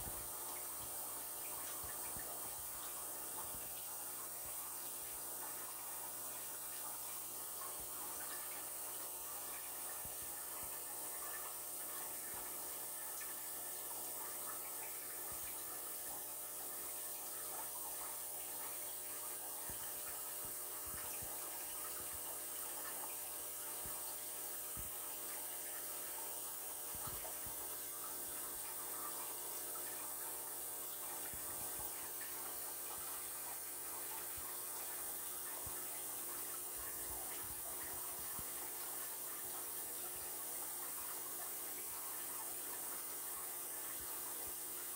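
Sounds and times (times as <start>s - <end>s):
running water trickling: 0.0s - 44.9s.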